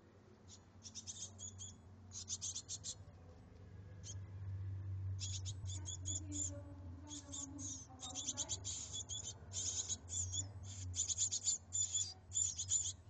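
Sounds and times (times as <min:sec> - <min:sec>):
low steady hum: 0:00.0 - 0:13.0
nestling birds cheeping: 0:00.3 - 0:13.0.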